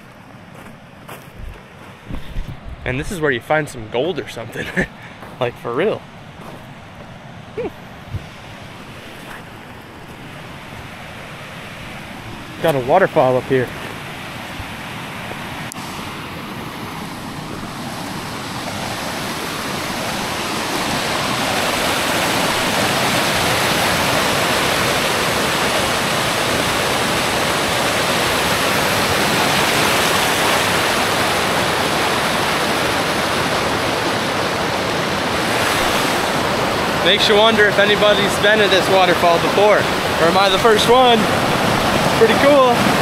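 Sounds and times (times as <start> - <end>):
water rushing over boulders: 7.5 - 43.0.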